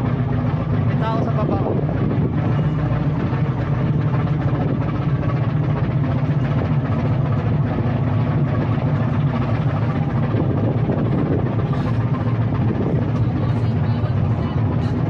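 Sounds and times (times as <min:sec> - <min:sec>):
diesel engines droning: 0:00.0 - 0:15.0.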